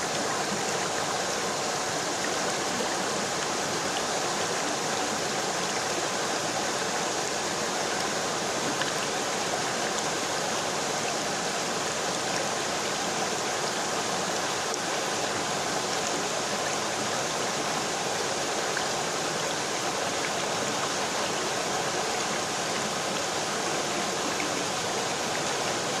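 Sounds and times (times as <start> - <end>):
river flowing: 0.0 - 26.0.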